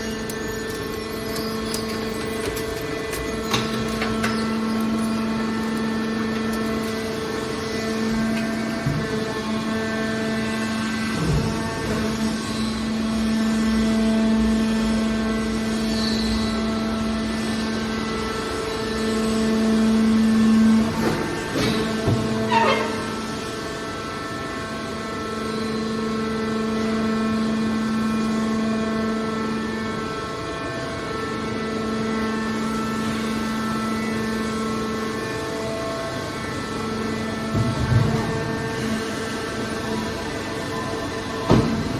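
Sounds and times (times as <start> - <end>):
electric motor and pump humming: 0.0 - 41.9.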